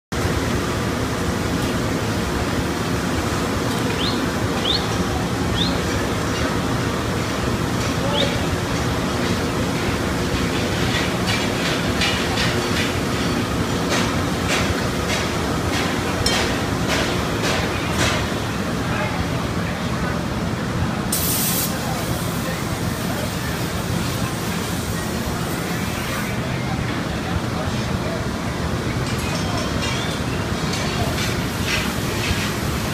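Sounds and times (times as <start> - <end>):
voices: 3.6 - 32.9.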